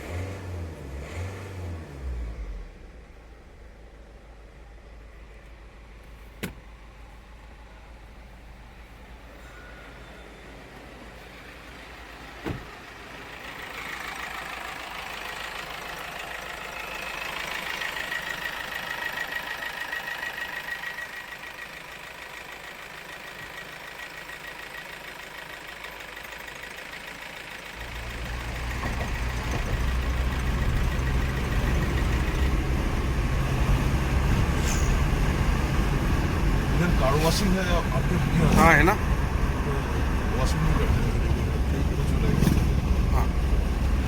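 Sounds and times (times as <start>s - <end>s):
diesel engine running: 0.0s - 44.0s
low engine rumble: 1.8s - 44.0s.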